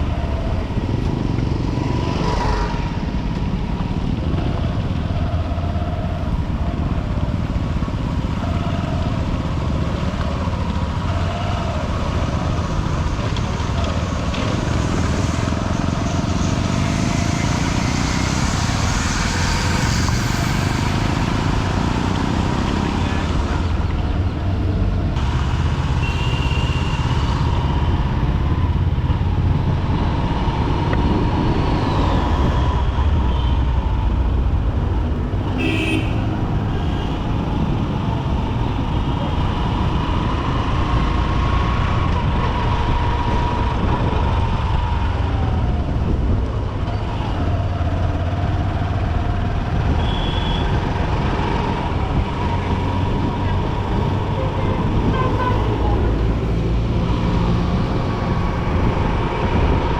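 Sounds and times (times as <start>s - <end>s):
surrounding traffic noise: 0.0s - 59.9s.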